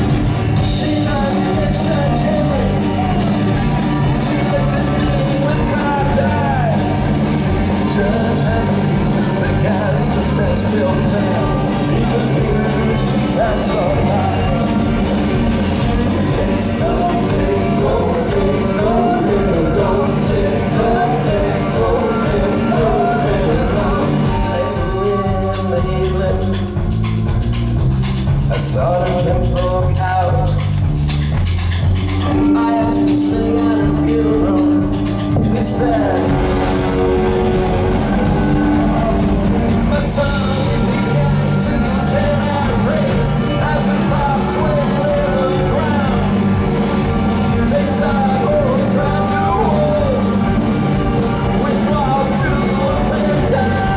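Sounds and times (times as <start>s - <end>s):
man singing: 0.0s - 26.9s, 28.5s - 30.8s, 32.2s - 53.9s
drums beating: 0.0s - 53.9s
live country band playing: 0.0s - 53.9s.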